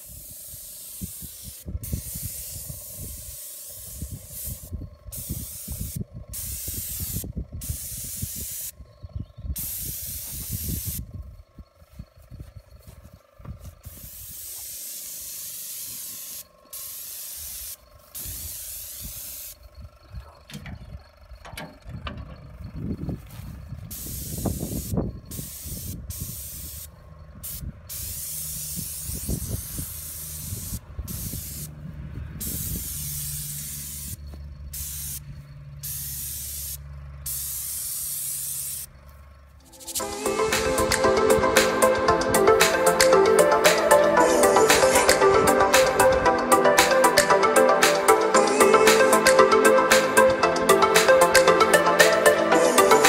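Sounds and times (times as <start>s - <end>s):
paint spray gun hissing: 0.0s - 8.8s, 9.5s - 11.1s, 13.2s - 20.0s, 23.9s - 31.8s, 32.4s - 39.0s, 39.6s - 53.0s.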